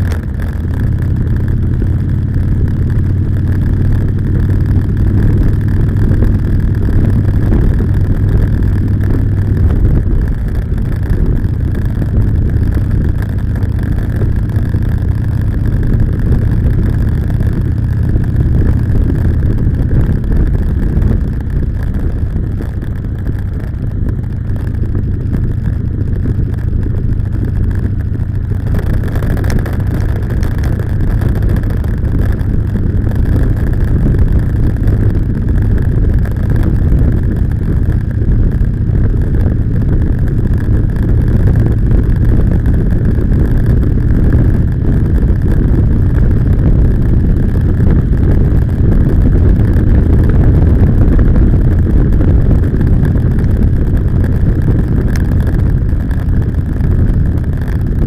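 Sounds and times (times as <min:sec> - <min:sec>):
motorcycle engine at road speed: 0:00.0 - 0:58.0
wind rushing over microphone: 0:00.0 - 0:58.0.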